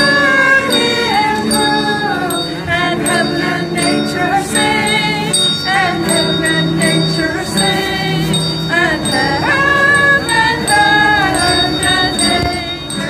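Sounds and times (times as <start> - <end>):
background music with jingling bells: 0.0 - 13.0.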